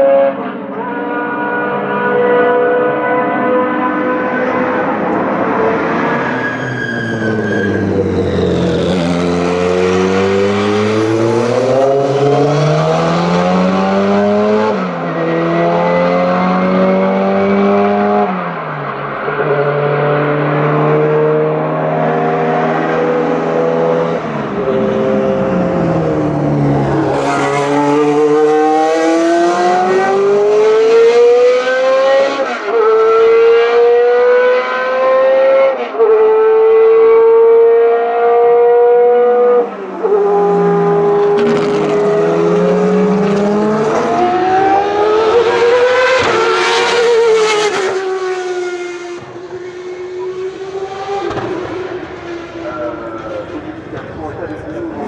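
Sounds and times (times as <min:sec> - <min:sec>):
racing car engines accelerating: 0:00.0 - 0:55.0.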